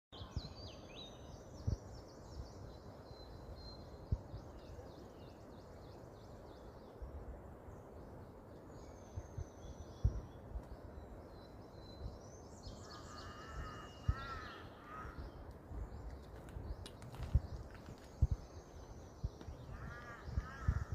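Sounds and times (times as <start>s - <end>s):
steady low background noise: 0.2s - 20.9s.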